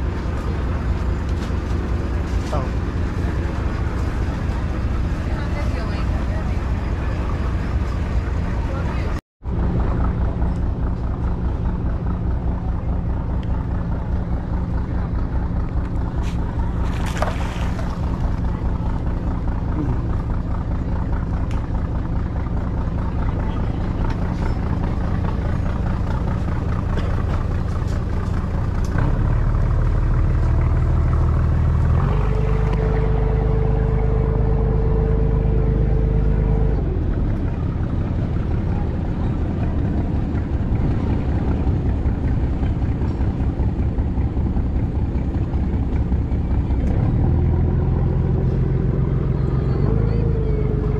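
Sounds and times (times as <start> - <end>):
motor boat engine running: 0.0 - 50.9.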